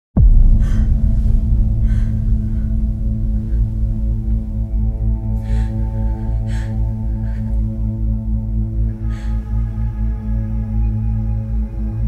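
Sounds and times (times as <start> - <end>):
deep rumble: 0.2 - 12.0
low droning chord: 0.2 - 12.0.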